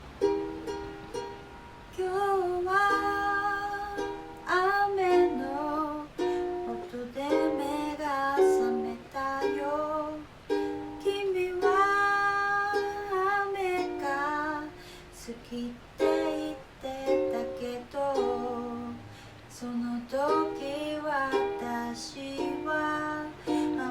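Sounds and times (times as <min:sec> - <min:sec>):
ukulele: 0:00.0 - 0:23.9
person singing: 0:01.9 - 0:23.9.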